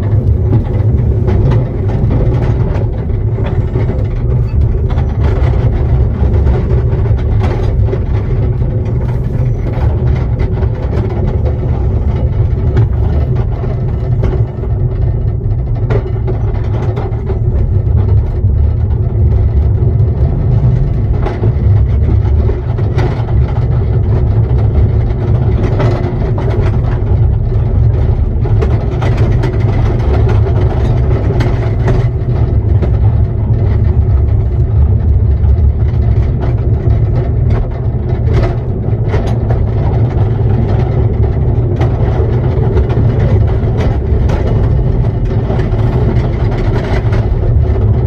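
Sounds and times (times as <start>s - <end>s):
train wheels rumbling on track: 0.0s - 48.0s.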